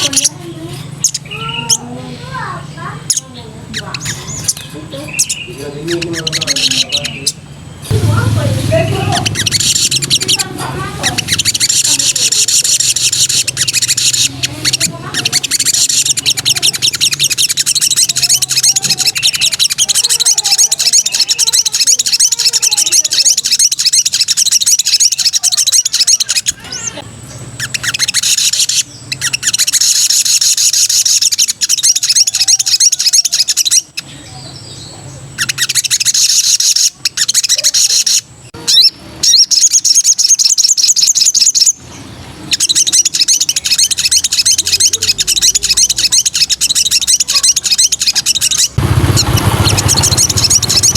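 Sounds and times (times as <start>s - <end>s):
bird chattering trills: 0.0s - 50.9s.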